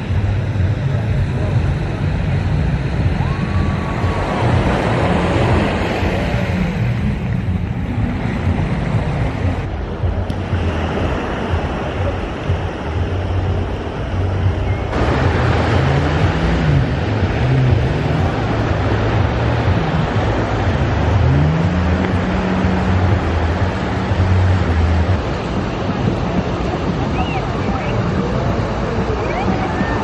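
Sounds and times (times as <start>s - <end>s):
low steady drone: 0.0s - 30.0s
waves washing ashore: 0.0s - 30.0s
wind on microphone: 0.0s - 30.0s.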